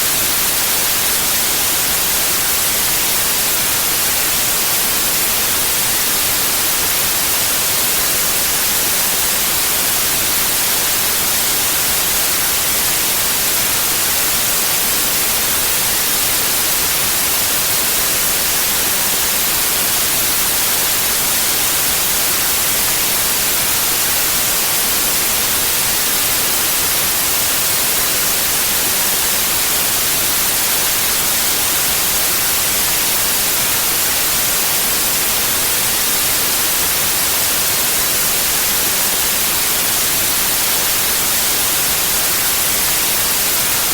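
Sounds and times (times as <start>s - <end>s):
white noise hiss: 0.0s - 43.9s.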